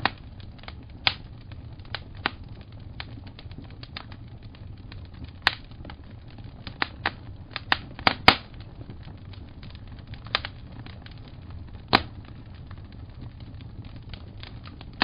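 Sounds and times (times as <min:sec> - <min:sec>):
low steady rumble: 0:00.0 - 0:15.0
sharp fire pops: 0:00.0 - 0:15.0
wood fire crackling: 0:00.0 - 0:15.0.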